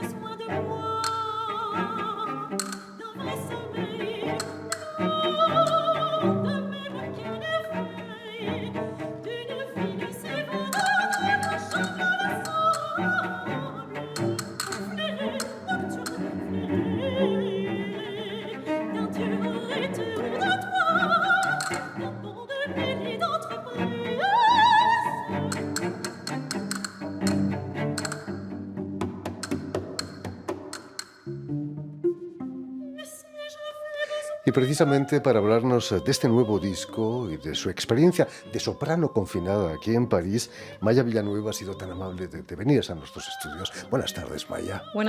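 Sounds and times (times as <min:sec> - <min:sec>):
soprano singing with vibrato: 0:00.0 - 0:26.9, 0:32.8 - 0:45.0
orchestra strings: 0:00.0 - 0:45.0.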